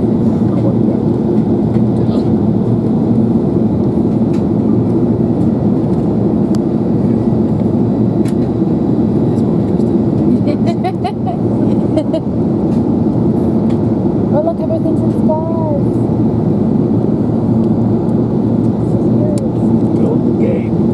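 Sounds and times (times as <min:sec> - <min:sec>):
airliner cabin rumble: 0:00.0 - 0:20.9.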